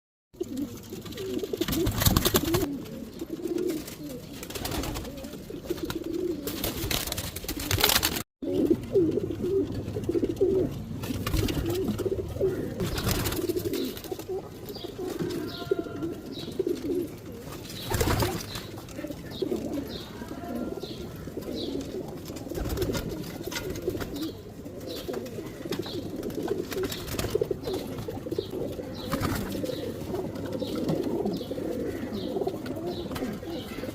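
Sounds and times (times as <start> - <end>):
pigeons cooing: 0.4 - 33.9.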